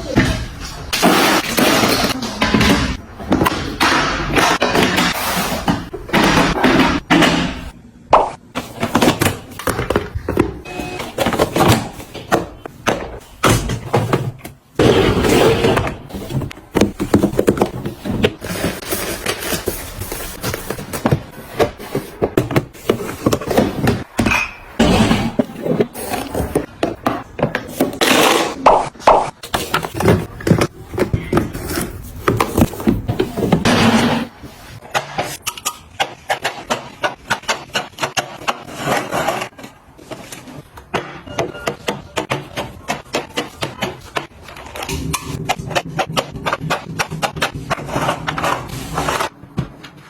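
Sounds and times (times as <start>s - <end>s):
items tapping and knocking: 0.1s - 14.8s, 15.6s - 34.2s, 34.8s - 50.0s.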